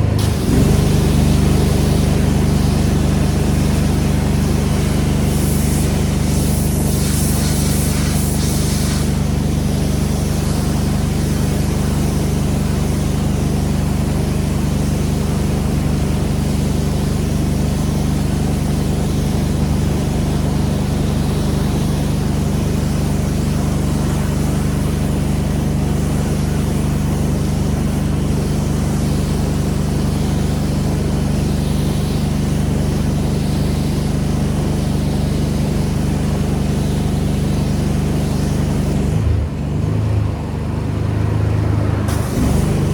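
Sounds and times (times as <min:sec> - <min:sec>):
water spray hiss: 0:00.0 - 0:39.4, 0:42.0 - 0:42.9
pressure washer engine: 0:00.0 - 0:42.9.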